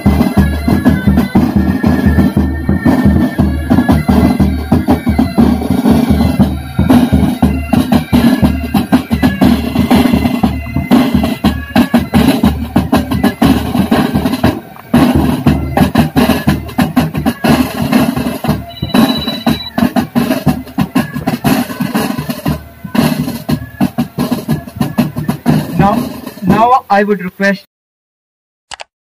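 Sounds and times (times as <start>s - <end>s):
bagpipes playing: 0.0s - 26.6s
marching snare and bass drums: 0.0s - 27.3s.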